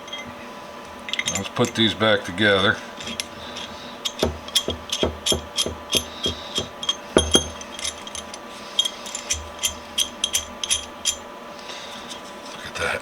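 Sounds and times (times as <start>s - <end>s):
metal wrench parts clinking: 0.0s - 0.4s, 1.1s - 11.3s.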